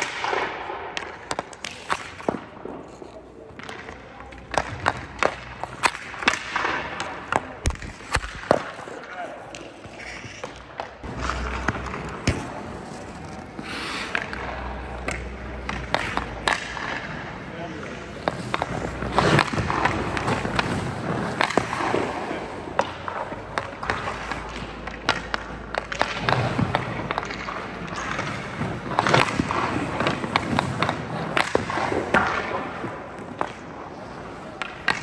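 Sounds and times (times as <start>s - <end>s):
hockey stick clacking on puck: 0.0s - 35.0s
skates scraping on ice: 0.0s - 35.0s.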